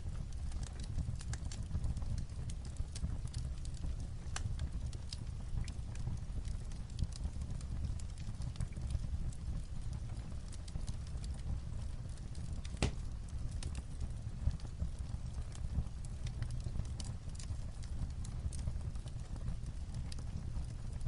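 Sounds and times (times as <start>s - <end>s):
fireplace crackling: 0.0s - 21.0s
light rain on a roof: 0.0s - 21.0s.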